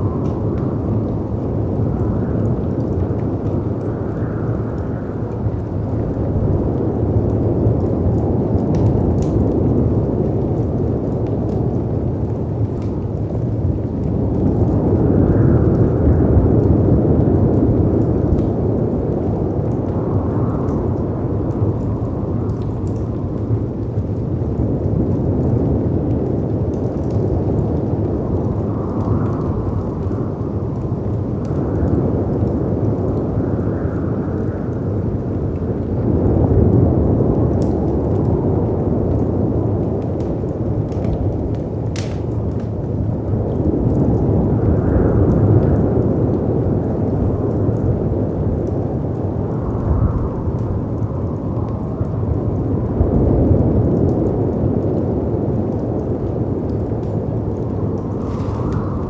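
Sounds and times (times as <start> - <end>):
wind: 0.0 - 59.0
wood fire crackling: 0.0 - 59.0.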